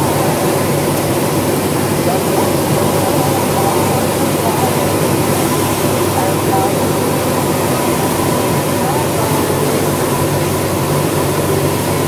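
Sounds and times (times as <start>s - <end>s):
air rushing around cockpit: 0.0s - 12.0s
airplane engine and propeller: 0.0s - 12.0s.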